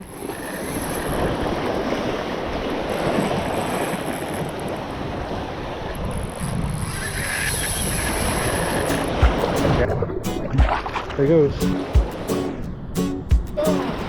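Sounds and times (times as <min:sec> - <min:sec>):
surf rushing: 0:00.0 - 0:14.0
wind buffeting microphone: 0:00.0 - 0:14.0.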